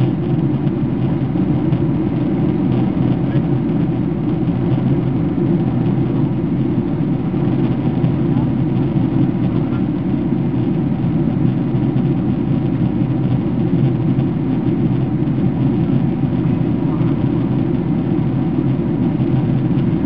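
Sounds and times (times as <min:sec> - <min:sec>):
faint steady hums: 0:00.0 - 0:20.0
jet engine and airflow rumble: 0:00.0 - 0:20.0.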